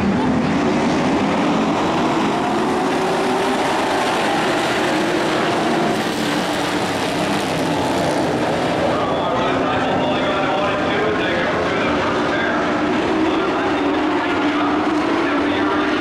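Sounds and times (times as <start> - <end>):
race truck engines roaring: 0.0 - 16.0.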